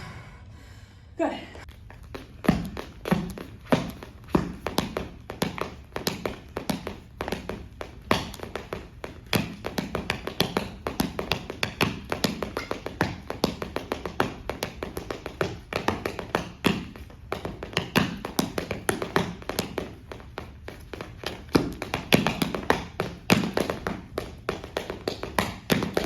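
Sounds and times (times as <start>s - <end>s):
rapid dance taps: 1.7s - 26.0s.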